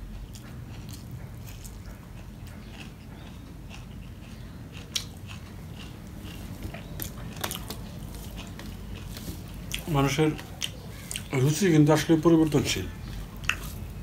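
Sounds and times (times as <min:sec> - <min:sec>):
man chewing food: 0:00.0 - 0:14.0
steady low hum: 0:00.0 - 0:14.0.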